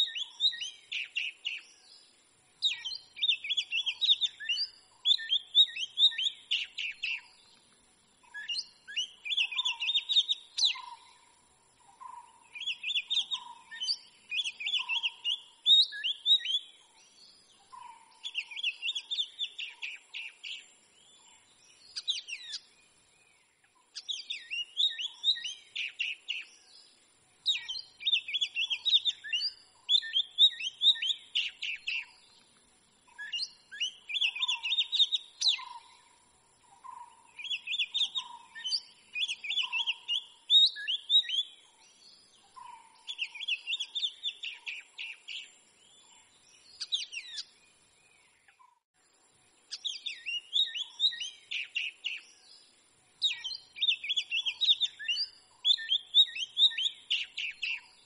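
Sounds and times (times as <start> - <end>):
bird singing whistled notes: 0.0 - 48.8, 49.6 - 58.0.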